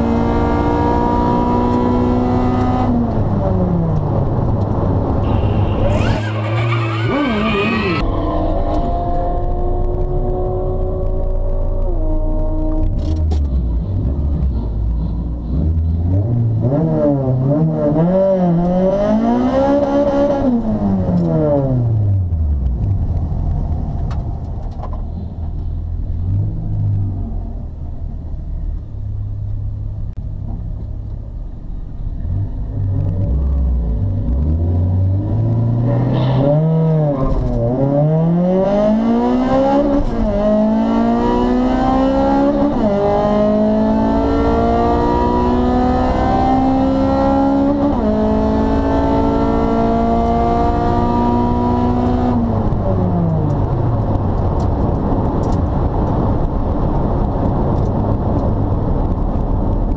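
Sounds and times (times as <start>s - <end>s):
car engine revving: 0.0s - 23.2s, 32.2s - 59.9s.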